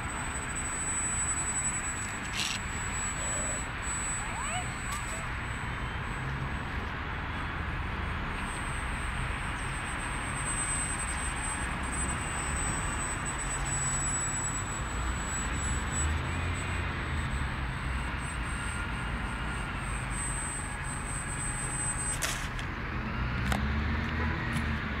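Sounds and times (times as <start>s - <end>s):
faint electric motor whine: 0.0s - 25.0s.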